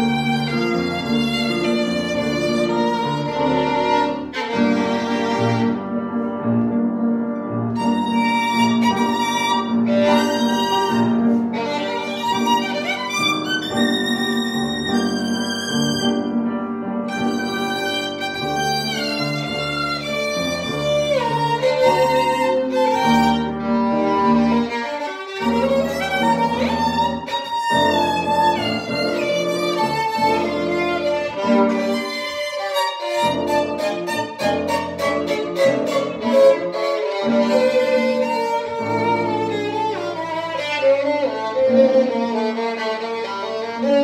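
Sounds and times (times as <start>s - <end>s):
piano accompaniment: 0.0s - 44.0s
violin melody: 0.0s - 44.0s.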